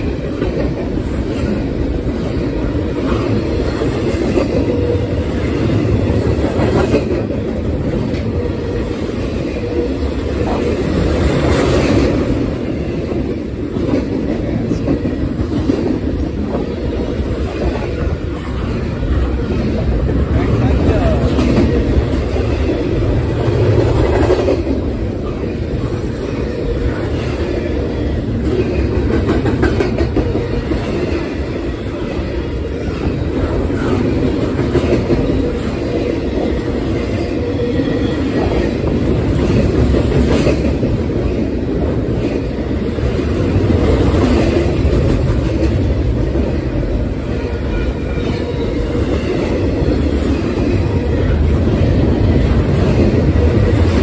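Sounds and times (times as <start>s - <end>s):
clickety-clack over rail joints: 0.0s - 54.0s
freight train wheels rumbling: 0.0s - 54.0s.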